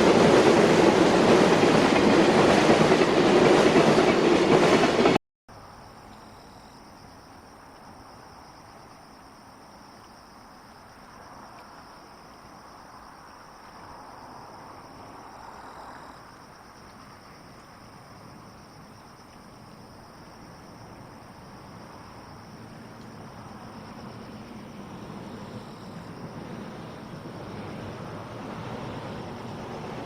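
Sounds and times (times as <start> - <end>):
insects trilling: 5.5 - 30.0.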